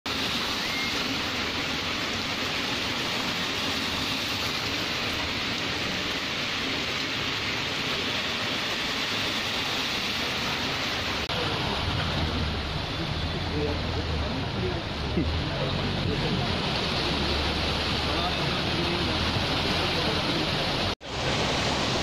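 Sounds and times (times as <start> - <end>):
heavy rain falling: 0.1 - 22.0.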